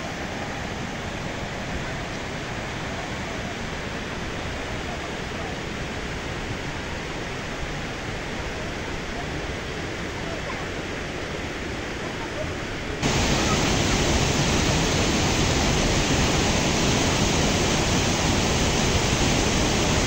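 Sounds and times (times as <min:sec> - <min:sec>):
waterfall and stream rushing: 0:00.0 - 0:20.0.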